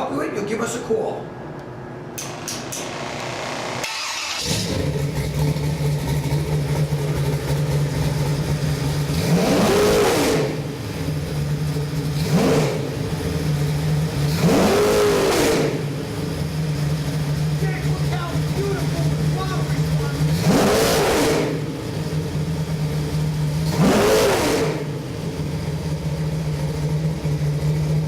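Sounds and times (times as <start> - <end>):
car engine idling and revving: 2.1 - 28.0.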